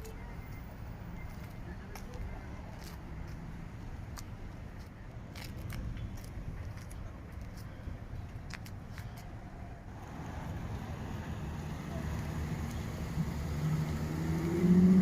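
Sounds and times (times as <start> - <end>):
car engine rumbling: 2.5 - 15.0.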